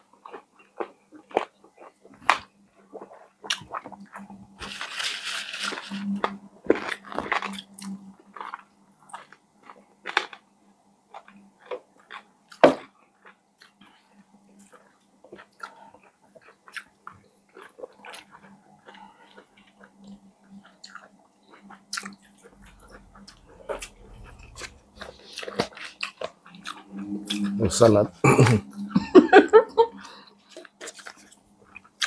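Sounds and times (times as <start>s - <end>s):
crunchy chewing of fried chicken: 0.0s - 27.9s, 29.9s - 32.0s
faint steady hum: 0.0s - 32.0s.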